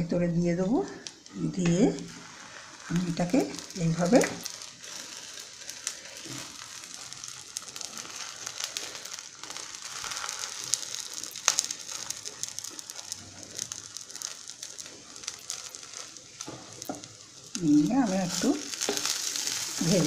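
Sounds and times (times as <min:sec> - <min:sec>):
batter sizzling in a pan: 0:00.0 - 0:20.0.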